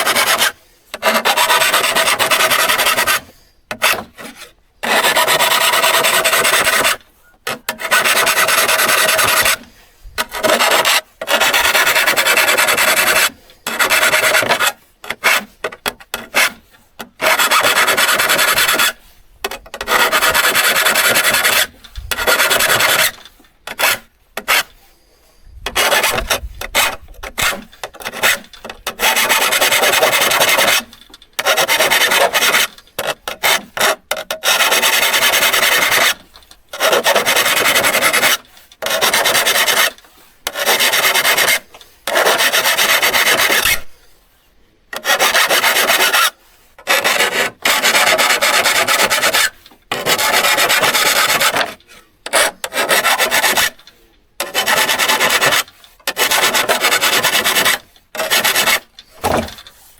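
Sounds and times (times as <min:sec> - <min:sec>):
saw blade rasping: 0:00.0 - 0:24.9, 0:25.5 - 0:44.2, 0:44.9 - 0:59.9.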